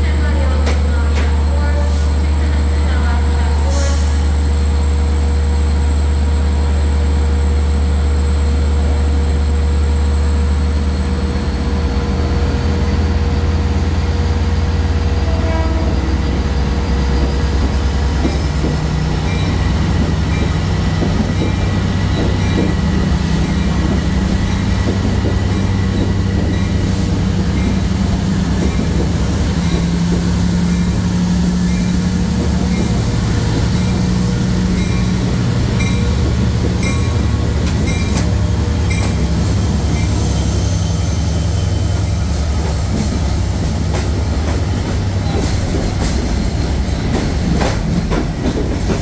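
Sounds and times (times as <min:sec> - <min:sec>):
diesel locomotive engine drone: 0:00.0 - 0:49.0.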